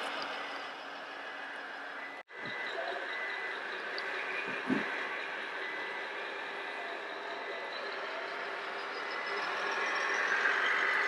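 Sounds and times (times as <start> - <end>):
model truck motor hum: 0.0 - 11.0.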